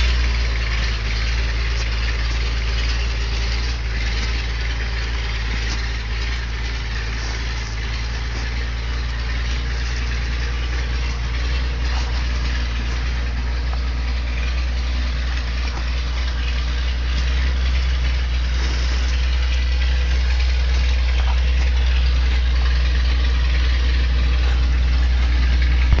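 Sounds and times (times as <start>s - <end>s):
truck engine low drone: 0.0s - 26.0s.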